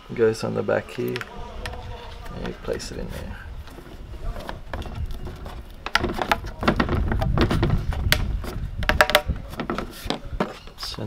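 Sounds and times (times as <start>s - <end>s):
low rubbing and bumping: 1.3s - 10.7s.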